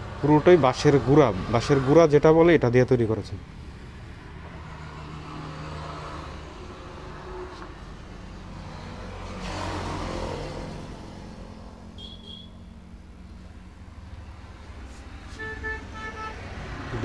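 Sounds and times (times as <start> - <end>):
traffic hum: 0.0 - 17.0
vehicle passing: 0.0 - 17.0.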